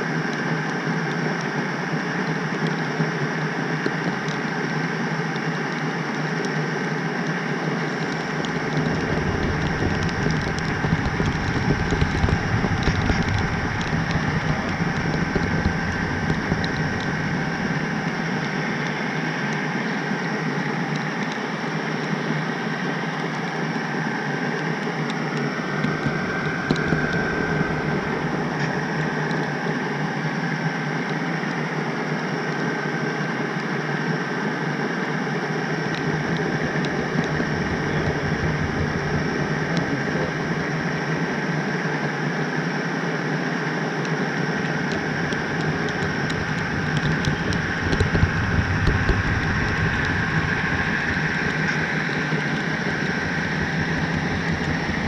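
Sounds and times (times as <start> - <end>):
thin steady whine: 0.0 - 55.0.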